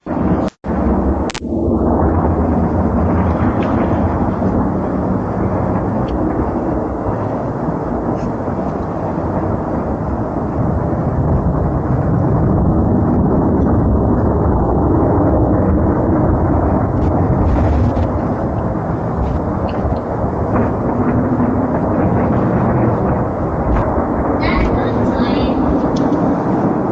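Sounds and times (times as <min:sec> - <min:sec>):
low rumbling from the sky: 0:00.0 - 0:26.9.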